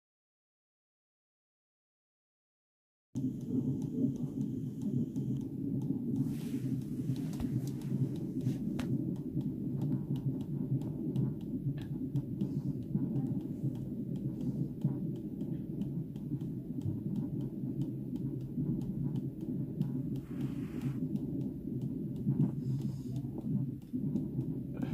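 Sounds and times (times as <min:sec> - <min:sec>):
fetal heartbeat whooshing pulse: 0:03.2 - 0:24.9.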